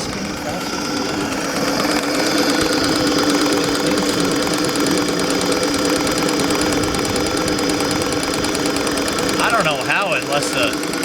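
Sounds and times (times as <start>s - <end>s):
model steam engine running: 0.0s - 11.0s.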